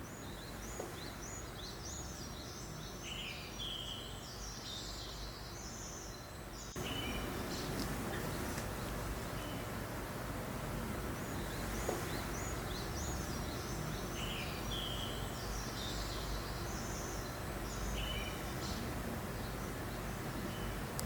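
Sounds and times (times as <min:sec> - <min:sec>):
low breeze: 0:00.0 - 0:21.0
small birds chirping: 0:00.0 - 0:21.0.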